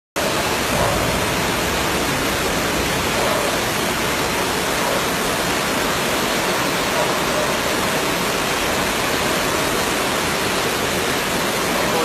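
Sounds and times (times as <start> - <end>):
floodwater rushing: 0.2 - 12.0.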